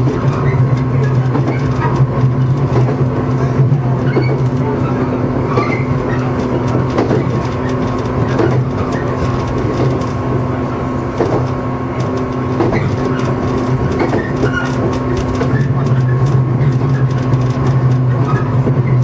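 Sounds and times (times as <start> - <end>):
electric train hum: 0.0 - 19.0
wheels knocking on track: 0.0 - 19.0.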